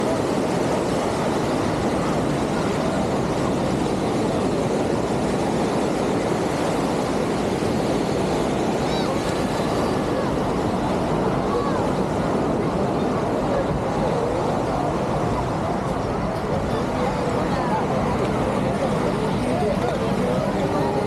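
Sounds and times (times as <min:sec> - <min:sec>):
beachfront ambience: 0:00.0 - 0:21.0.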